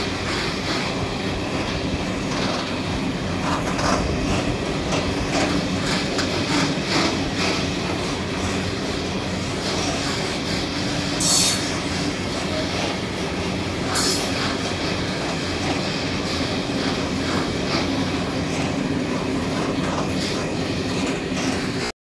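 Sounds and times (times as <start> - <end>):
train wheels rumbling on track: 0.0 - 21.9.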